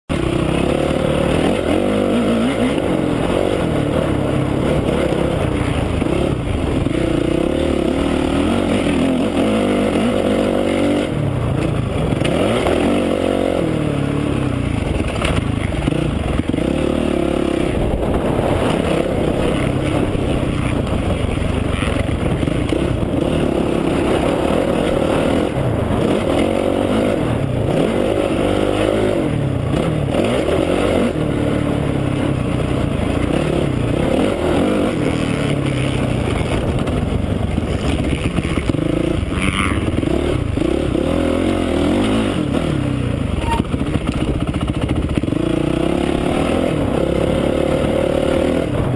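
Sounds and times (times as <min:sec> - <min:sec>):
motorcycle engine revving: 0:00.1 - 0:48.9.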